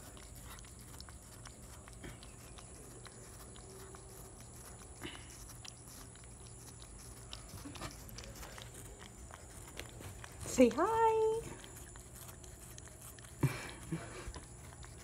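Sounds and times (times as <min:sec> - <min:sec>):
cat chewing wet clicks: 0:00.0 - 0:15.0.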